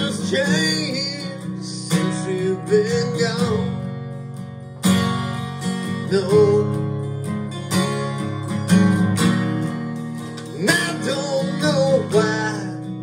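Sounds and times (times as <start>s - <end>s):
strummed acoustic guitar song: 0.0s - 13.0s.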